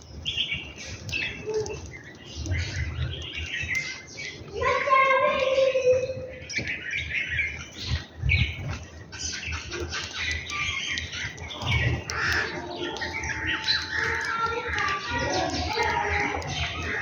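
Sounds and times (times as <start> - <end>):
small birds chirping and squawking: 0.0 - 17.0.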